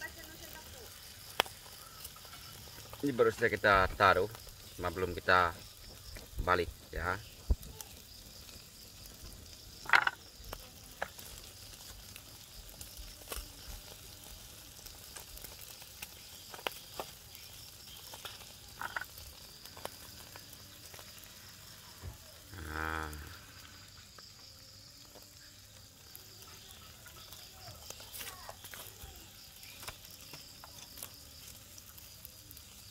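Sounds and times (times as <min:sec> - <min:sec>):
crackles and pops: 0:00.0 - 0:32.9
fish sizzling on a grill: 0:00.0 - 0:32.9.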